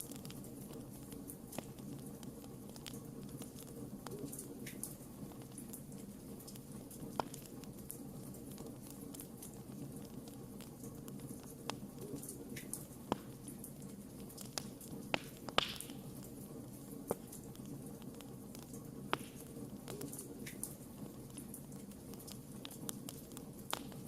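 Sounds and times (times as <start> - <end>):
fire flames rumbling: 0.0 - 24.0
logs crackling and popping: 0.0 - 24.0.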